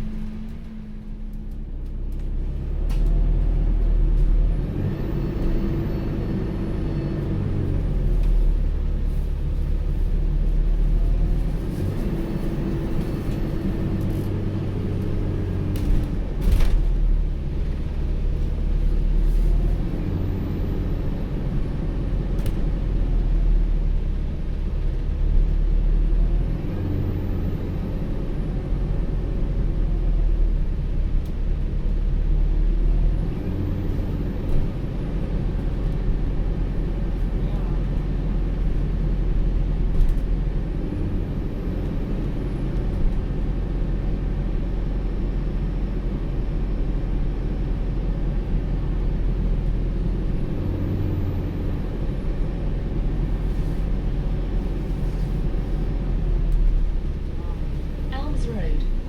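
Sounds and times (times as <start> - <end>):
bus drive whine: 0.0 - 59.0
bus engine low rumble: 0.0 - 59.0.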